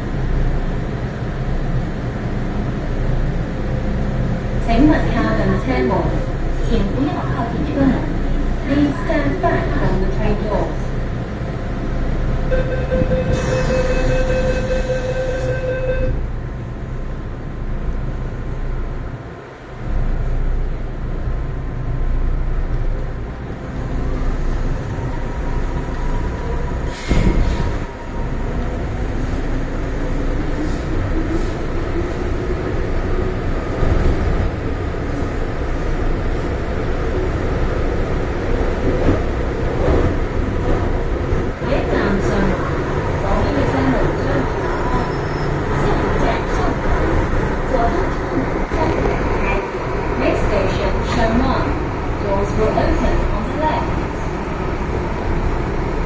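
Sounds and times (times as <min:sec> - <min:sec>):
train wheels rumbling on track: 0:00.0 - 0:56.0
train whine: 0:00.0 - 0:56.0.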